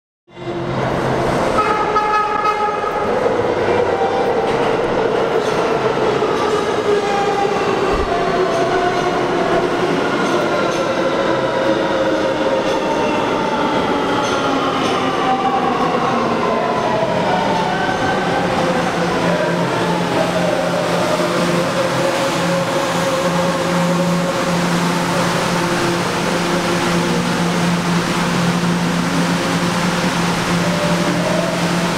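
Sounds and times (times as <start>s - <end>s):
subway traction motors whining: 0.4s - 31.9s.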